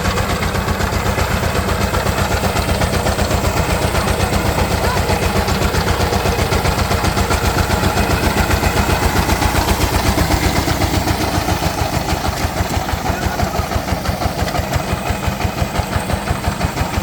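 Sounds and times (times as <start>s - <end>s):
tiller diesel engine chugging: 0.0s - 17.0s.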